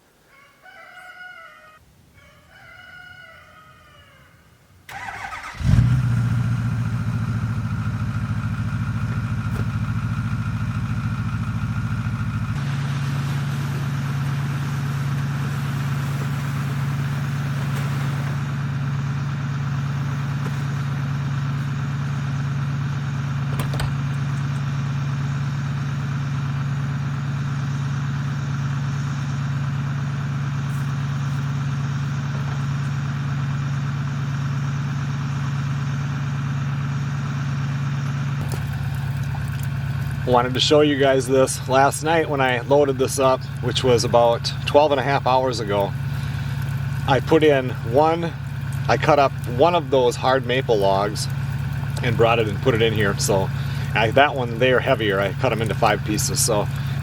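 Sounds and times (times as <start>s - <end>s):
vehicle engine starting and idling: 4.9s - 57.0s.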